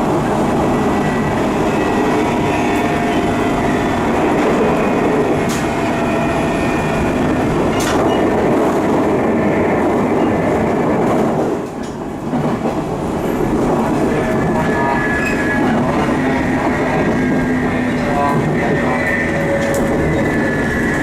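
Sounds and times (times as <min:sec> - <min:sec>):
train car rumble: 0:00.0 - 0:21.0.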